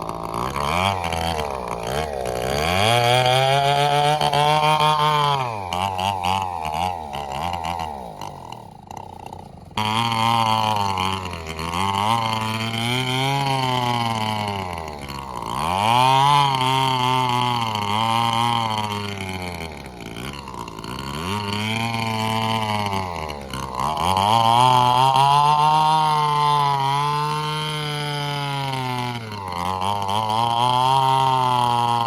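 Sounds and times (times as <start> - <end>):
engine revving up and down: 0.0 - 32.0.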